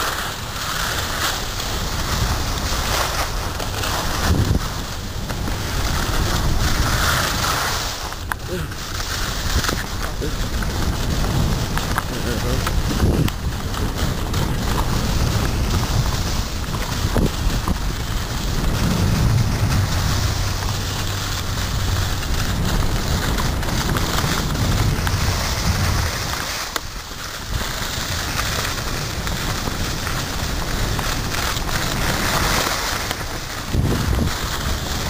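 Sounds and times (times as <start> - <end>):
skis scraping over snow: 0.0 - 35.0
wind on microphone: 1.1 - 35.0.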